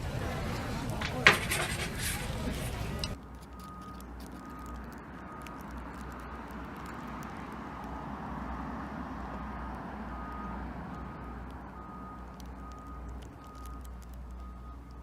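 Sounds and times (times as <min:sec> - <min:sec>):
street traffic: 0:00.0 - 0:15.0
vehicle passing: 0:00.0 - 0:15.0.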